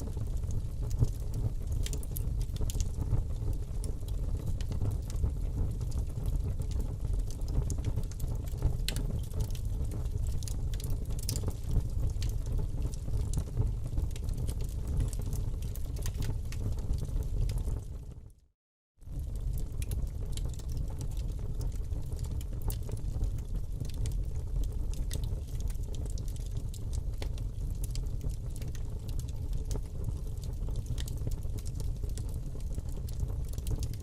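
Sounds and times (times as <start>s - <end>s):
fire crackling in fireplace: 0.0s - 18.4s, 19.0s - 34.0s.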